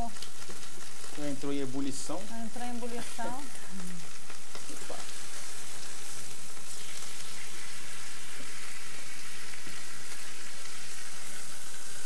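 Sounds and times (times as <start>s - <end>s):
food sizzling and crackling: 0.0s - 12.0s
water boiling in saucepan: 0.0s - 12.0s.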